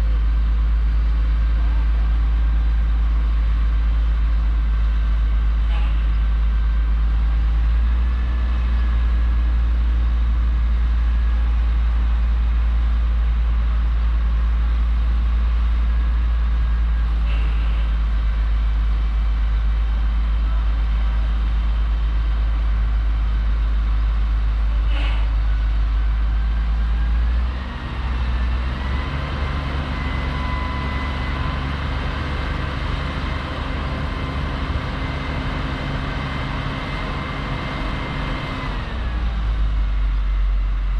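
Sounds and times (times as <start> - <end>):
diesel farm machinery running: 0.0 - 40.9.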